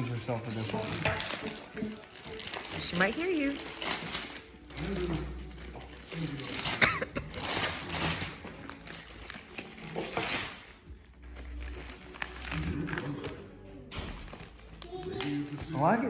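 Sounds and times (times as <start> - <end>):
wrapping paper tearing and crumpling: 0.0 - 16.0.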